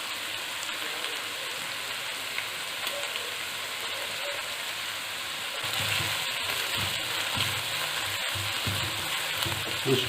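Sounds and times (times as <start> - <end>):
spices sizzling in butter: 0.0 - 10.0.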